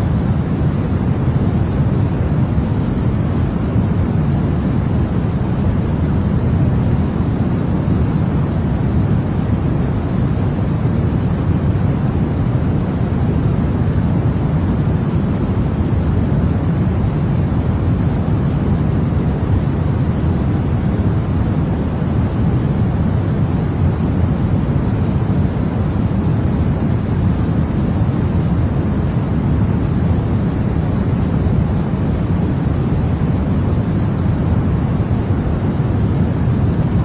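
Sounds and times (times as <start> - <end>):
deep white noise: 0.0 - 37.0.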